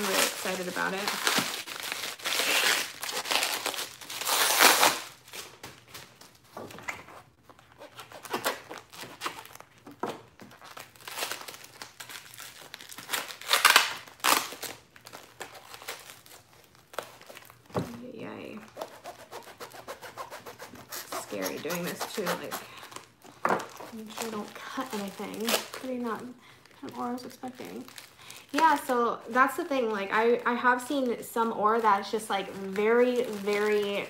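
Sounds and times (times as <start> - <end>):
packaging wrap crinkling and tearing: 0.0 - 6.6, 7.2 - 17.7, 18.6 - 34.0.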